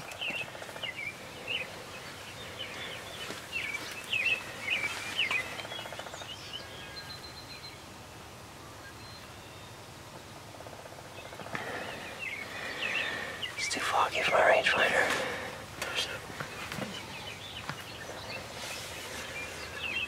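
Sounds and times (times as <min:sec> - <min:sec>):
small birds chirping: 0:00.0 - 0:08.0, 0:08.6 - 0:20.0
faint outdoor hiss: 0:00.0 - 0:20.0.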